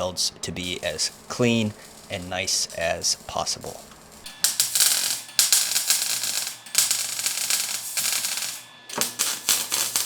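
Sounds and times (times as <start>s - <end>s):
welder arc crackling: 0.5s - 10.0s.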